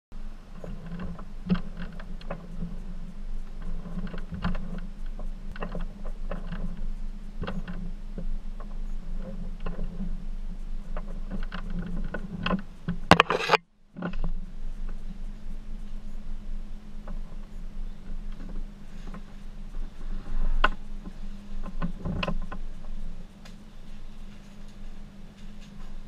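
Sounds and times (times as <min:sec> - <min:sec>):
steady low hum: 0:00.1 - 0:26.0
canopy frame clicks and clunks: 0:00.5 - 0:15.2, 0:17.0 - 0:26.0.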